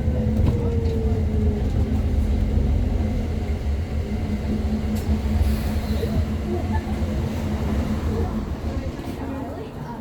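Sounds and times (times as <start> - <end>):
bus engine droning uphill: 0.0 - 9.9.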